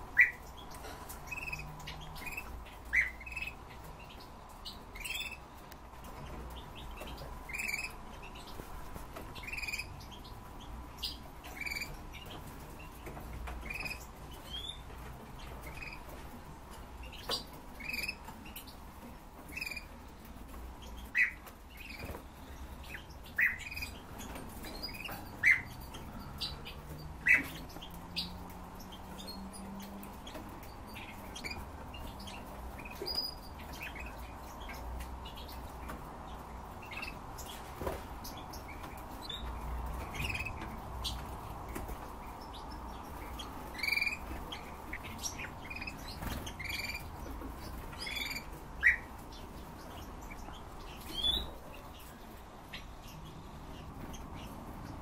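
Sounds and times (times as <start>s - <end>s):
finches chirping: 0.0s - 16.4s, 17.0s - 55.0s.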